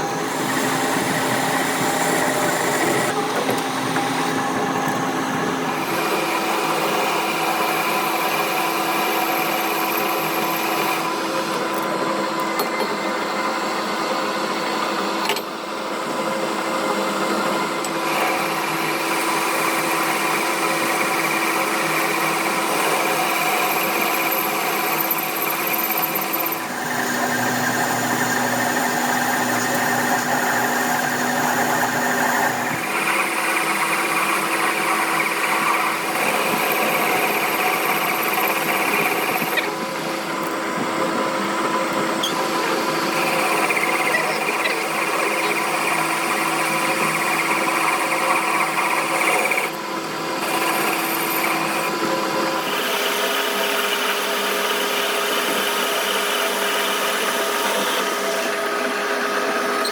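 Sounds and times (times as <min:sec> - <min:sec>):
machine tool humming and whining: 0:00.0 - 0:59.9.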